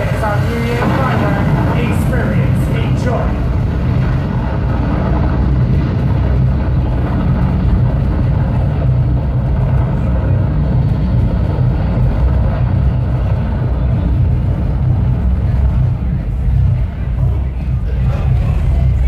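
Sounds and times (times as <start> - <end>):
rocket launch deep rumble: 0.0 - 19.0.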